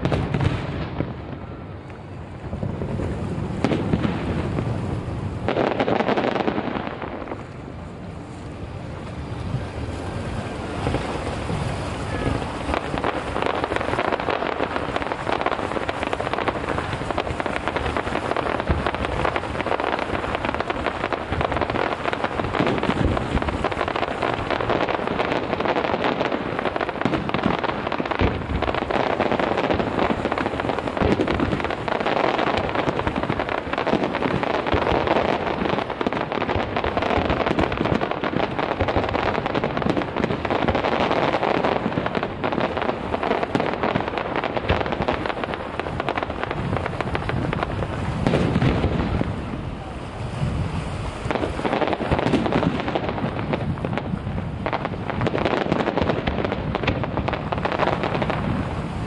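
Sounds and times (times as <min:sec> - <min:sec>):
fireworks crackling: 0:00.0 - 0:59.0
heavy firework bursts: 0:00.0 - 0:59.0.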